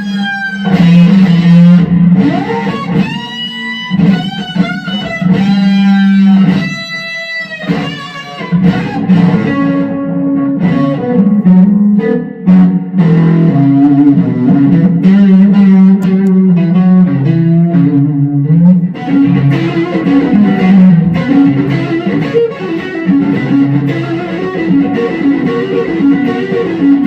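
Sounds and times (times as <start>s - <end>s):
electric guitar notes: 0.0s - 27.0s.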